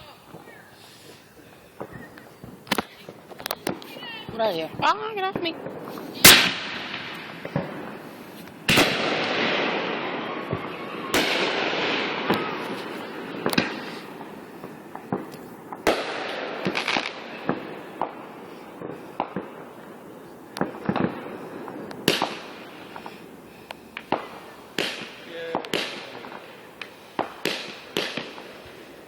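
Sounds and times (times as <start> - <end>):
small fireworks pops and crackles: 0.0 - 29.0
fireworks booms with echo: 1.4 - 29.0.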